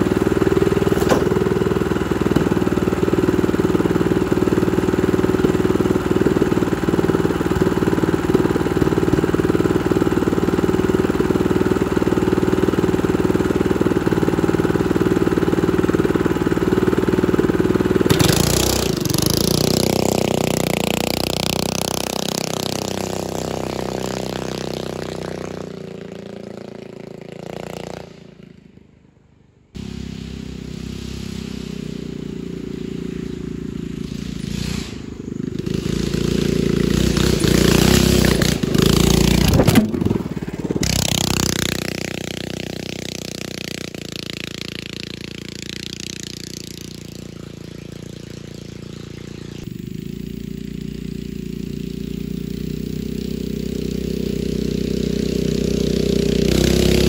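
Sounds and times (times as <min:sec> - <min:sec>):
go-kart engine idling and revving: 0:00.0 - 0:57.0.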